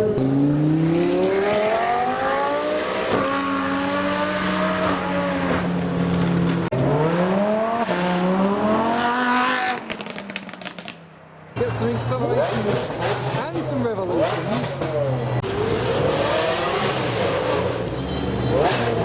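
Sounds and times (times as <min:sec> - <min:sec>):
car engine accelerating hard: 0:00.0 - 0:10.8, 0:11.6 - 0:19.0.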